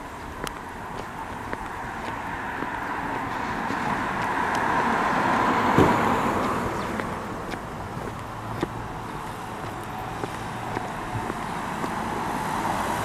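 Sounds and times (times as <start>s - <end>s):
footsteps on pavement: 0.0s - 13.0s
car passing by: 0.8s - 13.0s.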